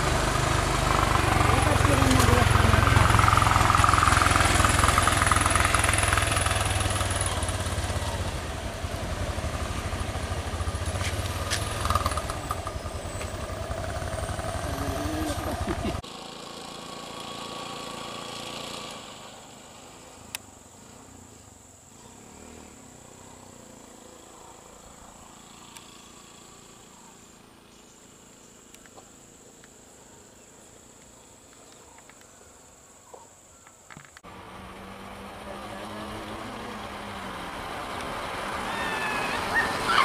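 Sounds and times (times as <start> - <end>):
faint roadside ambience: 0.0 - 40.0
vehicle engine hum: 0.0 - 40.0.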